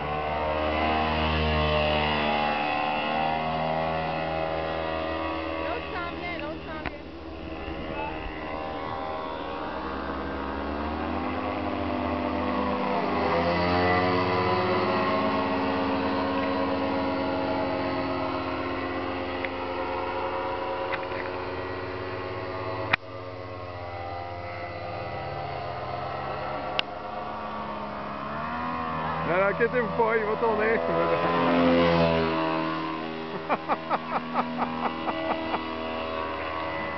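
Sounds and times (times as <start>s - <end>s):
paraglider engine and propeller droning: 0.0s - 36.9s.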